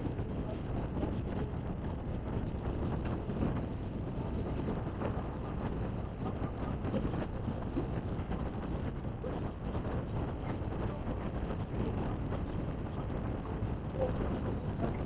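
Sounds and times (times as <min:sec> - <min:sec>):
moving bus rumble from inside: 0:00.0 - 0:15.0.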